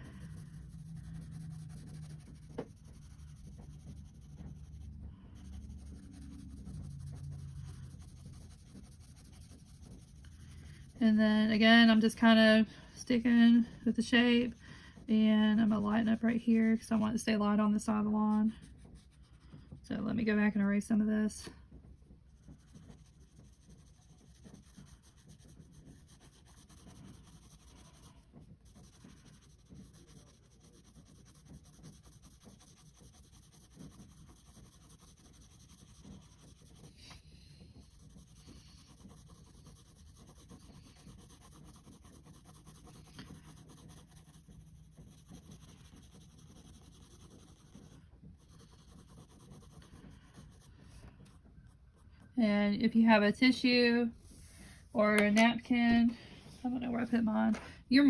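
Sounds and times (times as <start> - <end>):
pencil scratching on paper: 0.0 - 19.8, 22.3 - 52.3.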